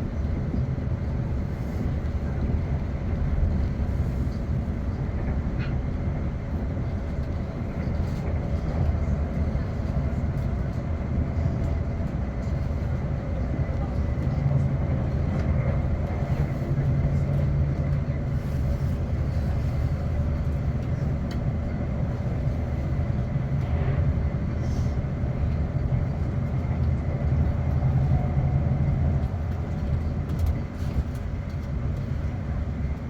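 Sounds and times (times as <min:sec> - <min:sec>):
train running gear rumble: 0:00.0 - 0:33.0.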